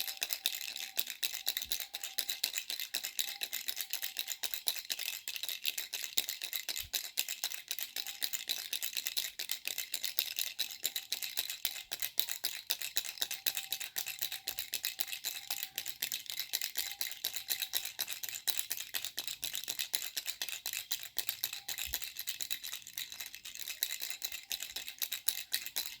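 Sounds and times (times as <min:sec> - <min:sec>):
baby's rattle shaken: 0:00.0 - 0:26.0.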